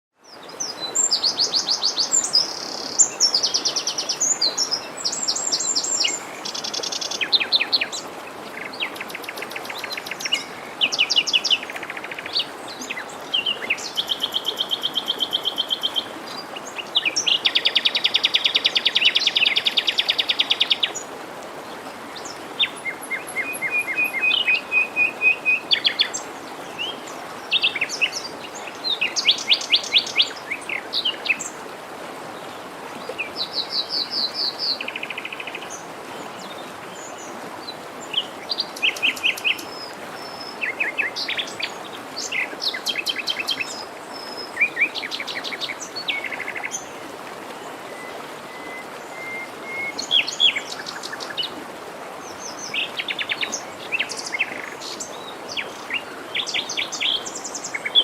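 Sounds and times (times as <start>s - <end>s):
songbirds singing: 0.2s - 21.1s, 22.1s - 31.6s, 32.4s - 51.6s, 52.2s - 58.0s
stream rushing: 0.2s - 58.0s.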